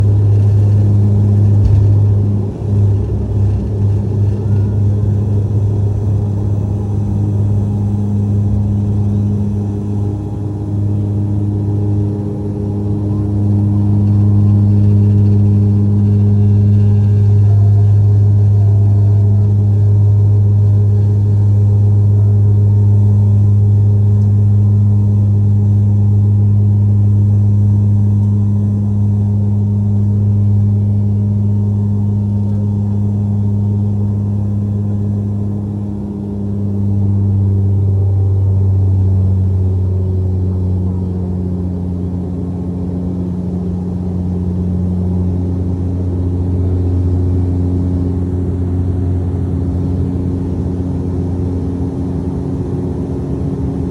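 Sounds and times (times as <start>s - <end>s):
airplane engines droning: 0.0s - 53.9s.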